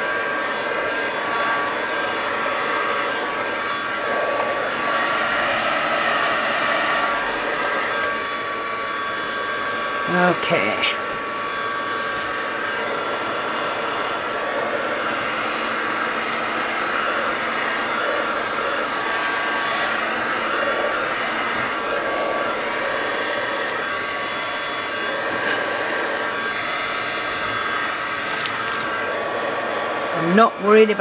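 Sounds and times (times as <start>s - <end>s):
heat gun blowing air: 0.0s - 31.0s.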